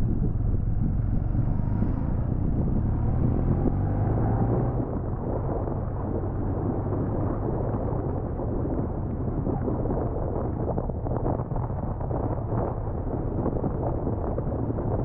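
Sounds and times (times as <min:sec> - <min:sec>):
motorcycle engine running: 0:00.0 - 0:13.1
wind buffeting microphone: 0:00.0 - 0:15.0.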